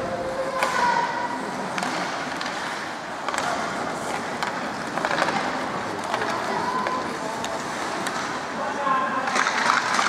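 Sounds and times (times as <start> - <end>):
skates scraping on ice: 0.2 - 10.0
hockey sticks and puck clacking: 0.3 - 10.0.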